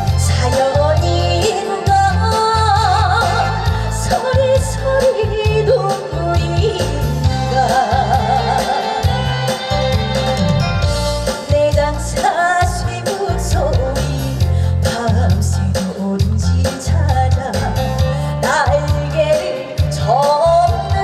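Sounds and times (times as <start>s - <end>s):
woman singing: 0.0s - 9.7s, 11.3s - 21.0s
instrumental accompaniment with bass beat: 0.0s - 21.0s.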